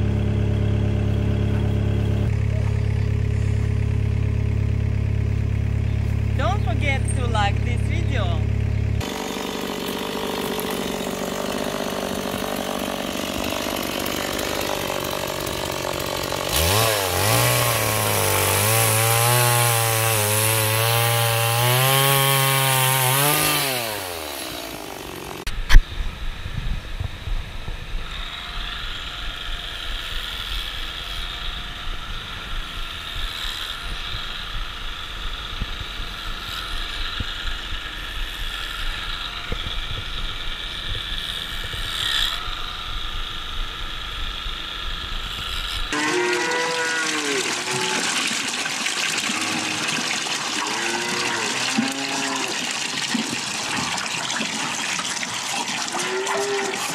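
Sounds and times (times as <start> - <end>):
electric clippers humming: 0.0 - 48.2
chainsaw idling and cutting log: 0.0 - 56.9.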